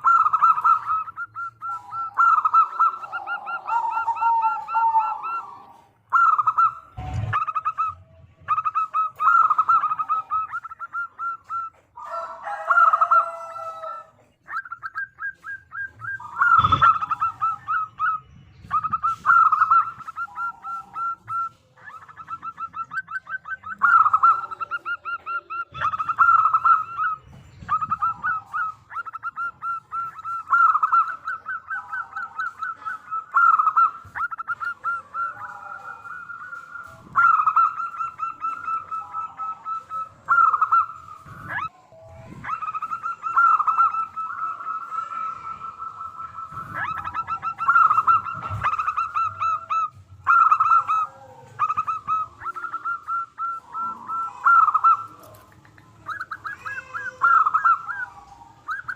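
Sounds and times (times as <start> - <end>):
dove cooing: 0.0 - 58.9.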